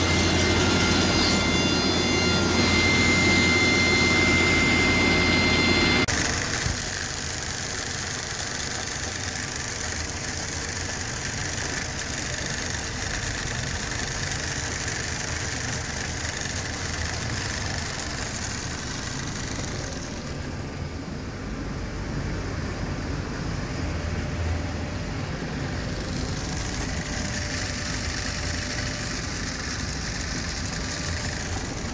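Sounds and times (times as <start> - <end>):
industrial machine drone: 0.0 - 31.9.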